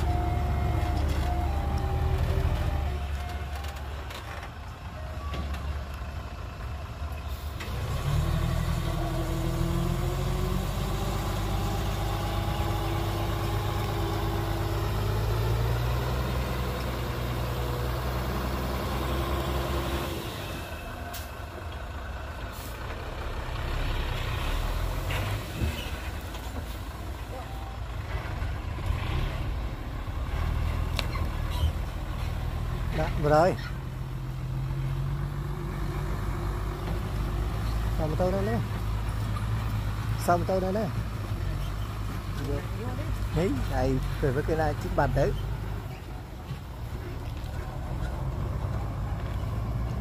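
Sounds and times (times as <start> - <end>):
heavy diesel machinery engines: 0.0 - 50.0.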